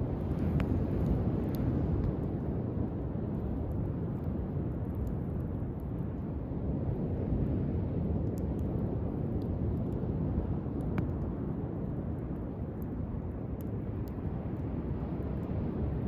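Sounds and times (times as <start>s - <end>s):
campfire crackling and popping: 0.0s - 16.0s
fire low rumble: 0.0s - 16.0s.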